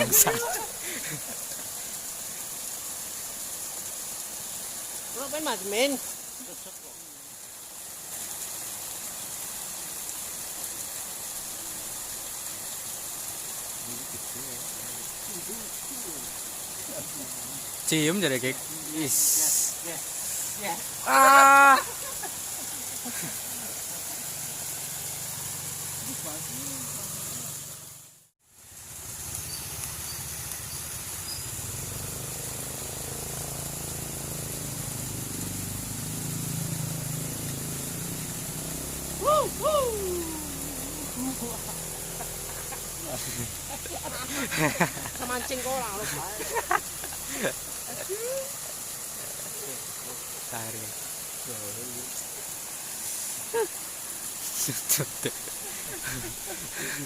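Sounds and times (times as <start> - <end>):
high even hiss: 0.0 - 57.0
water rushing in a ditch: 0.0 - 57.0.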